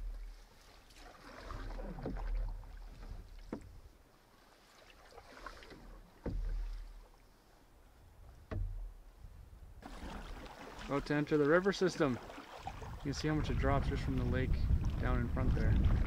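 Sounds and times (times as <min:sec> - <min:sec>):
canoe paddle strokes in water: 0:00.0 - 0:16.0.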